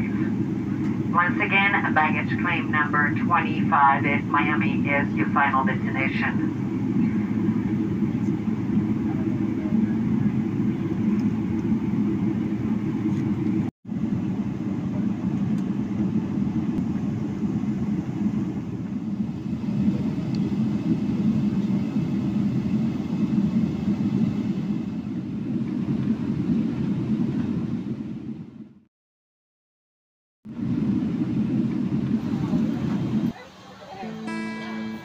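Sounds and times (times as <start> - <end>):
airplane cabin low rumble: 0.0 - 28.9, 30.5 - 35.0.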